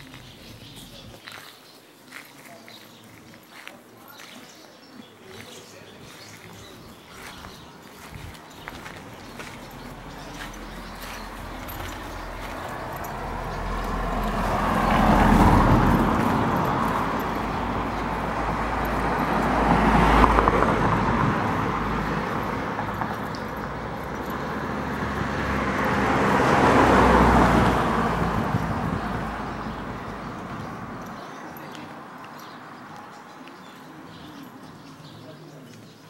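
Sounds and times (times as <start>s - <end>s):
cars passing by: 0.0s - 1.4s, 2.0s - 36.0s.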